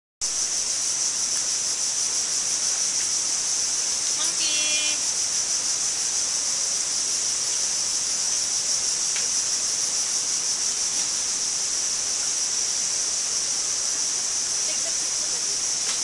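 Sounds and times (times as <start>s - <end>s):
high-pitched insect chorus: 0.2s - 16.0s.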